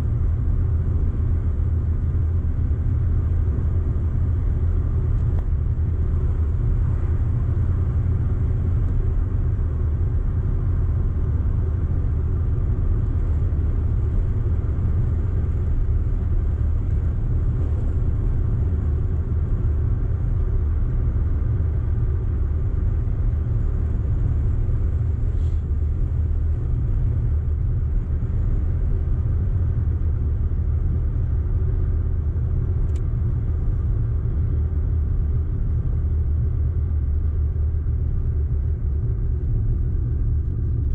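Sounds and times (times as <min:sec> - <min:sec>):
car engine rumble: 0:00.0 - 0:40.9
road noise: 0:00.0 - 0:40.9.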